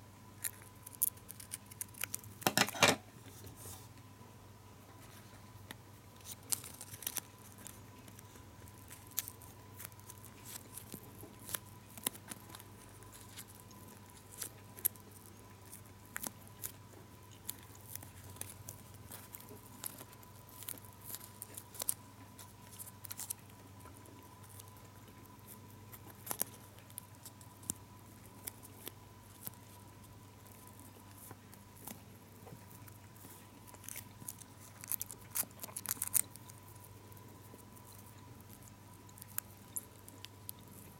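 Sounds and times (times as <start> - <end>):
faint steady hum: 0.0 - 40.9
foil wrapper crinkling: 6.2 - 40.9.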